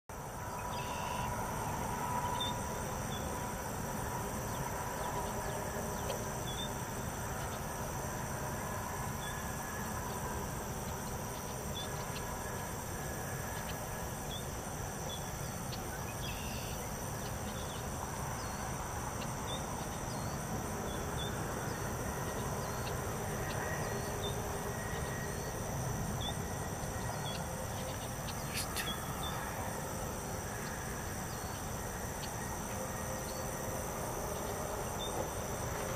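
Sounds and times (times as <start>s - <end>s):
high insect trill: 0.2s - 35.9s.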